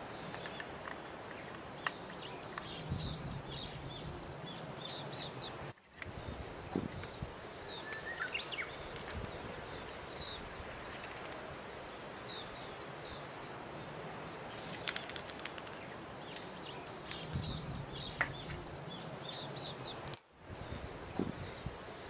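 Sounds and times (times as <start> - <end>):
small birds chirping: 0.0 - 22.0
steady background hiss: 0.0 - 22.0.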